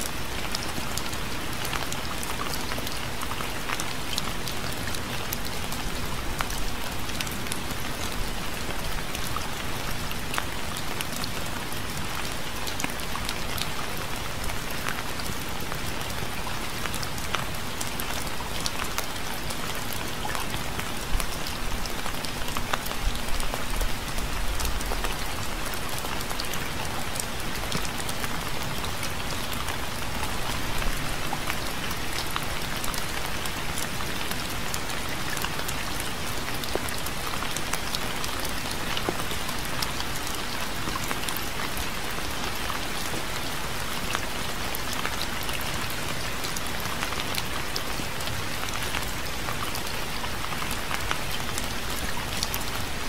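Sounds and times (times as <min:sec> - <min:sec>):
gentle rain falling: 0:00.0 - 0:53.0.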